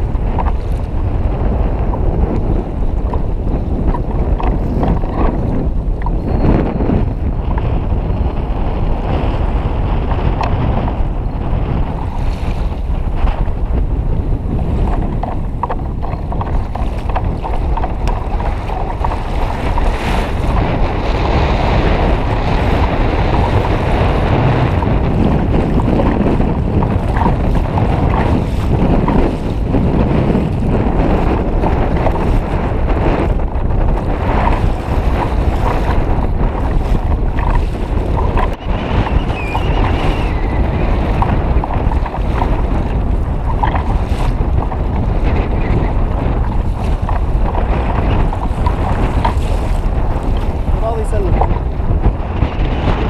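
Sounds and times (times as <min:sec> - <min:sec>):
water splashing along kayak hull: 0:00.0 - 0:53.0
wind buffeting microphone: 0:00.0 - 0:53.0.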